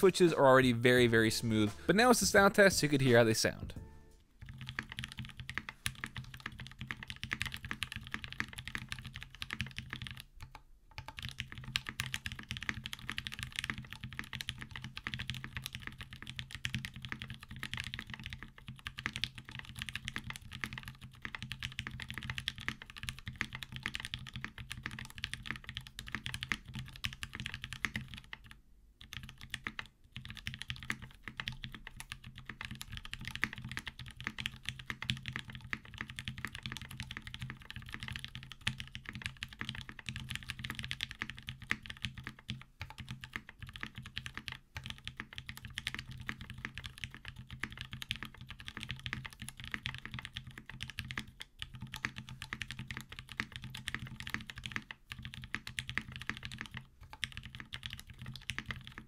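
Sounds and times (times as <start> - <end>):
typing on mechanical keyboard: 4.4 - 59.0.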